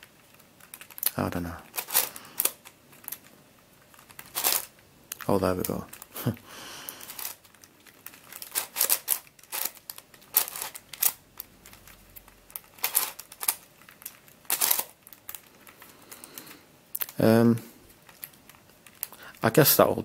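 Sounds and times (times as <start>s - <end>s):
plastic puzzle pieces clicking: 0.2s - 6.1s, 6.9s - 17.2s.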